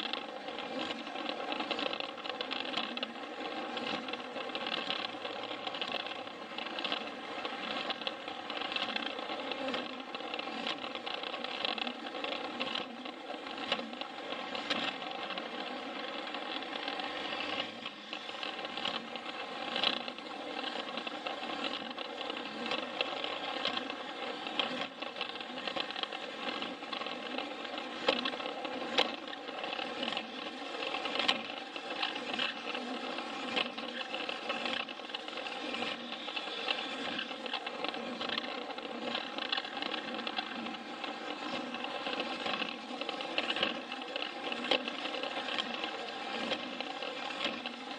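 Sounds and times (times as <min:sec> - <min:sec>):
clicks on plastic track: 0:00.0 - 0:47.9
toy train motor whirring: 0:00.0 - 0:47.9.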